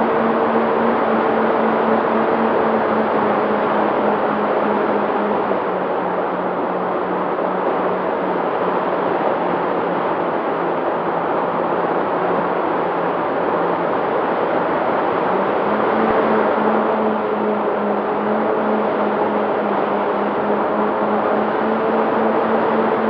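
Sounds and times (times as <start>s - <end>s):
seaplane motor humming: 0.0s - 23.0s.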